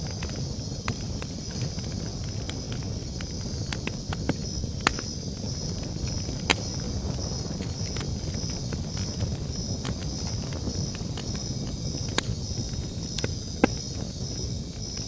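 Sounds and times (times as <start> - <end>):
campfire crackling and popping: 0.0 - 15.0
night insects chirring: 0.0 - 15.0.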